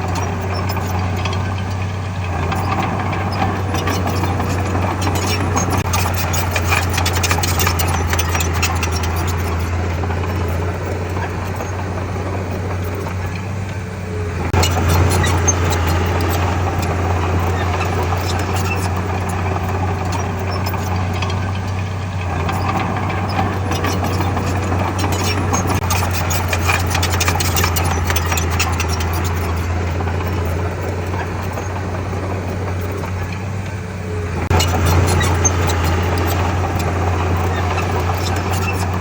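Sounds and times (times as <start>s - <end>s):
diesel machinery engine hum: 0.0s - 39.0s
rapid clicking and clatter: 0.0s - 39.0s.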